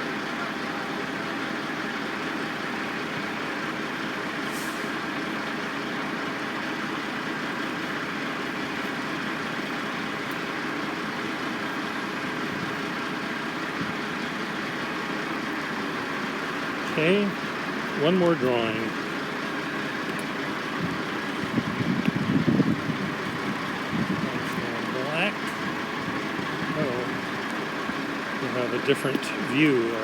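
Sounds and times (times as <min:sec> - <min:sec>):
construction machinery: 0:00.0 - 0:30.0
heavy truck engines running: 0:00.0 - 0:30.0.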